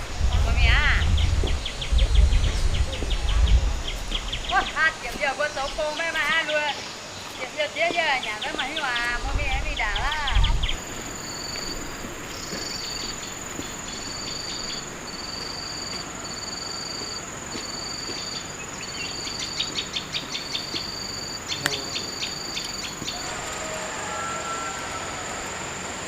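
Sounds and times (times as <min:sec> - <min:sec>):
high-pitched insect whine: 0:00.0 - 0:26.0
insects trilling: 0:00.0 - 0:26.0.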